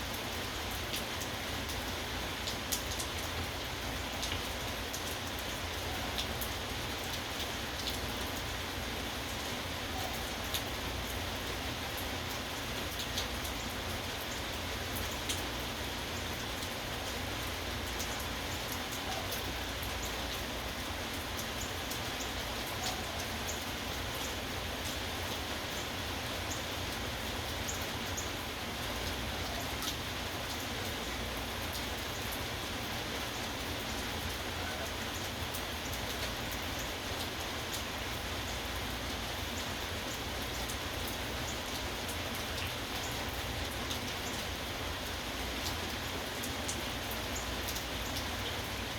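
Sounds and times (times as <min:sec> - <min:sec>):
rain falling: 0:00.0 - 0:48.9
raindrops ticking on a surface: 0:00.0 - 0:48.9.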